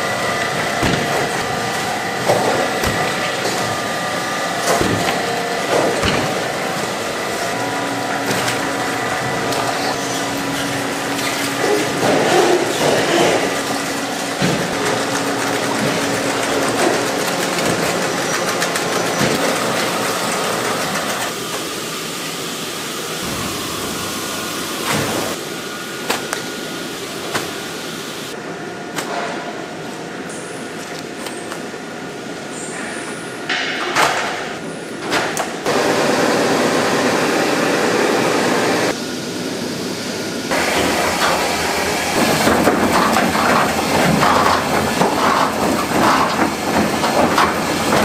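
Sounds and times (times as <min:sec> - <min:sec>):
machine hum: 0:00.0 - 0:33.5, 0:35.6 - 0:48.0
conveyor machinery running: 0:00.0 - 0:48.0.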